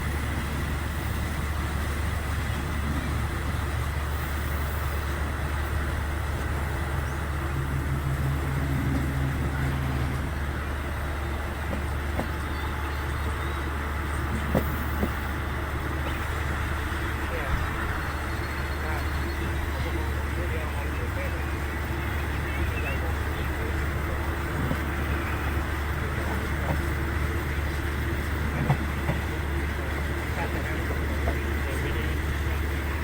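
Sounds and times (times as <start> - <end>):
low hum: 0.0 - 33.0
moving train rumble: 0.0 - 33.0.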